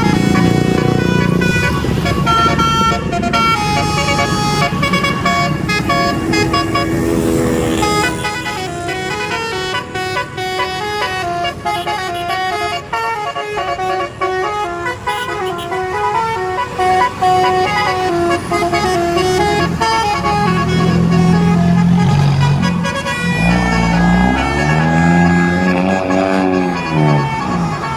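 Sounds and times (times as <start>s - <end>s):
low steady horn tone: 0.0s - 27.9s
multi-note bus horn melody: 0.0s - 27.9s.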